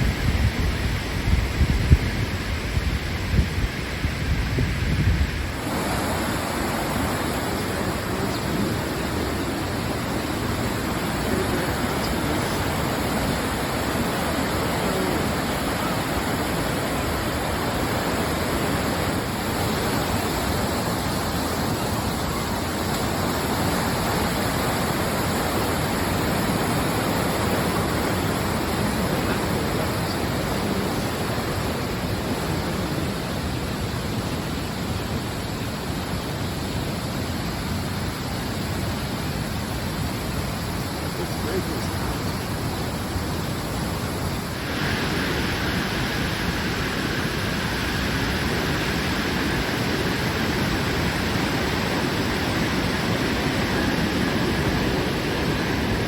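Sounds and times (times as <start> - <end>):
rushing creek water: 0.0 - 56.0.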